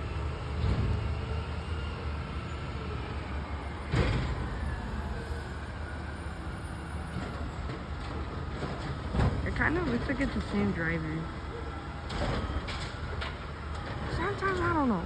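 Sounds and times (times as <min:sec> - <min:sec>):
garbage truck diesel engine: 0:00.0 - 0:15.0.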